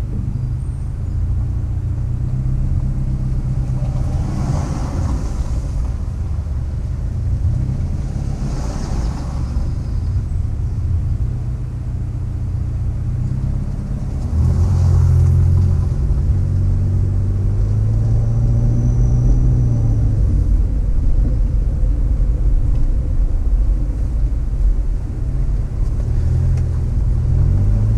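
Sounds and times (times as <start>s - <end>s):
vehicle engine and road rumble: 0.0s - 27.9s.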